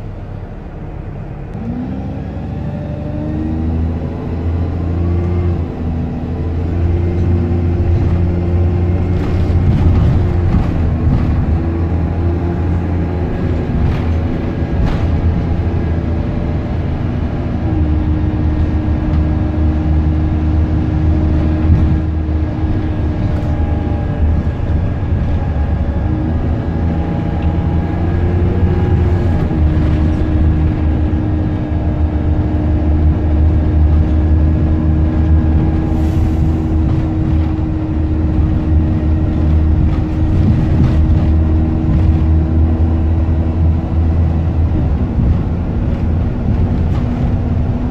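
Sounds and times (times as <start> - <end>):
drivetrain hum: 0.0 - 3.2, 5.2 - 47.9
bus engine rumble: 0.0 - 47.9.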